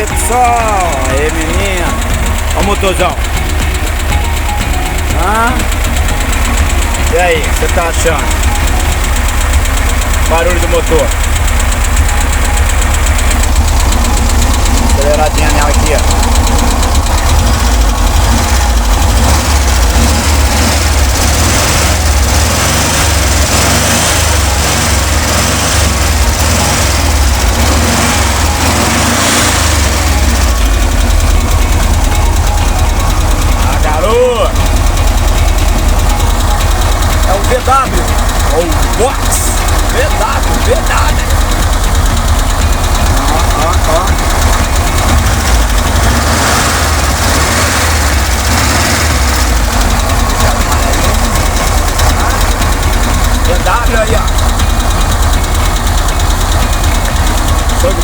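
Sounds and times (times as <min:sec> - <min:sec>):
car engine throbbing: 0:00.0 - 0:58.0.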